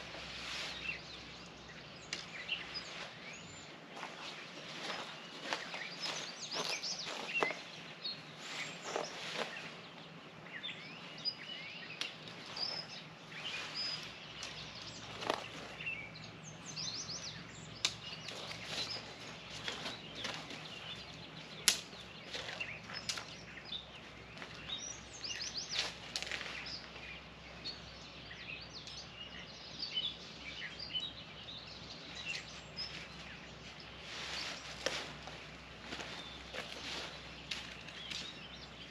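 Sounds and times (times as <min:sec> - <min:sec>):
birds chirping and calling: 0:00.0 - 0:38.9.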